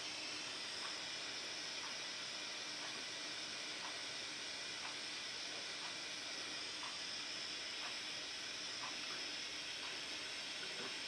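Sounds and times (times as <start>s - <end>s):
soldering iron gas hiss: 0.0s - 11.0s.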